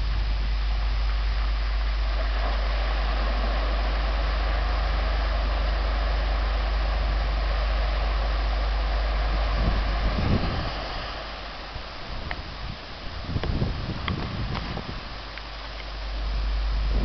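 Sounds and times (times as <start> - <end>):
car engine driving through water: 0.0 - 17.0.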